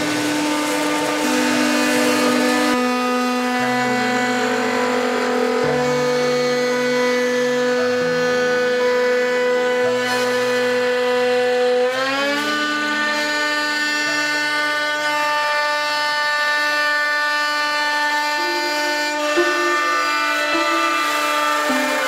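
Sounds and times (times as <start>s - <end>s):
router spindle whining: 0.0s - 22.0s
stepper motor tones: 0.0s - 22.0s.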